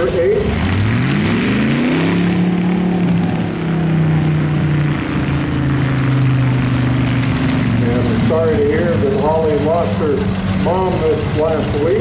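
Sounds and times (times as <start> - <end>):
tractor engine pulling away: 0.0 - 12.0.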